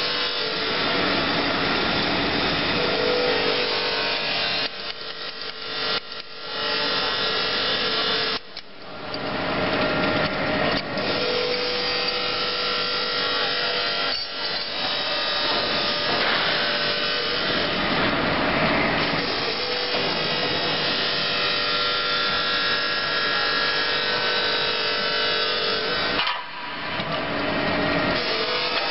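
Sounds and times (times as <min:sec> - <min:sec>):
fence weaving machine running: 0:00.0 - 0:28.9.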